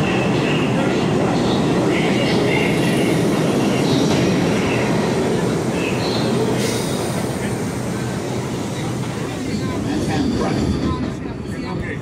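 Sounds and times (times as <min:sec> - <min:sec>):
subway train rumbling on rails: 0:00.0 - 0:12.0.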